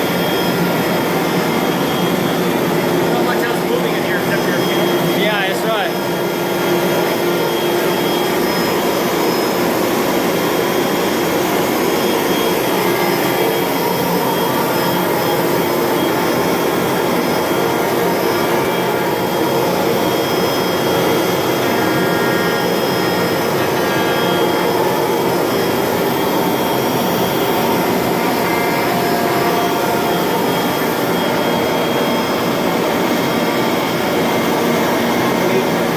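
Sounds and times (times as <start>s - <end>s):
cnc router running: 0.0s - 35.9s.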